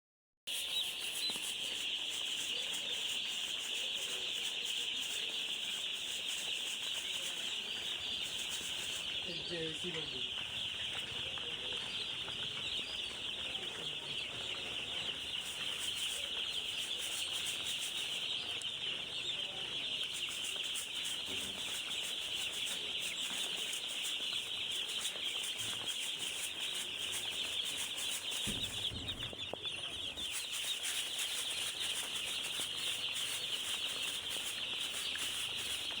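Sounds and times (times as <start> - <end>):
chicks peeping: 0.5 - 36.0.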